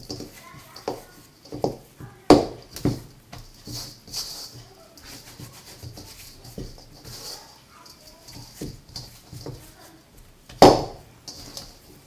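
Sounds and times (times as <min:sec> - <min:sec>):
meat squelching in metal bowl: 0:00.0 - 0:12.0.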